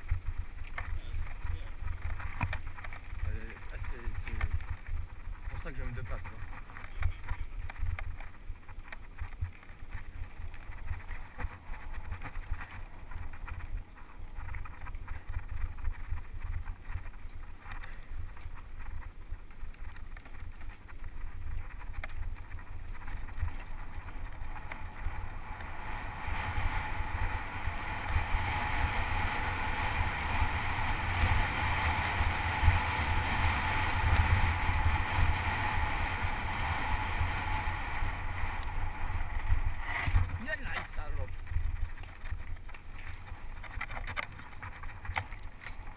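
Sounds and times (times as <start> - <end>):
bike rattling over bumps: 0.0 - 45.9
wind buffeting microphone: 0.0 - 45.9.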